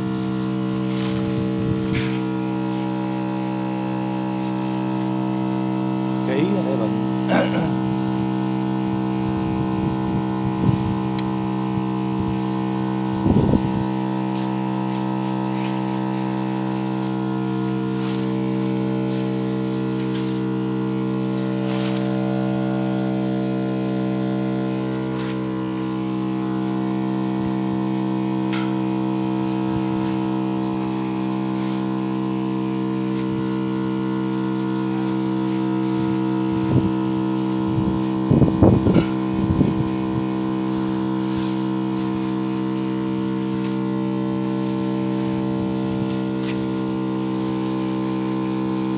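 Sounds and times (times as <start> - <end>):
electric water pump humming: 0.0 - 48.9.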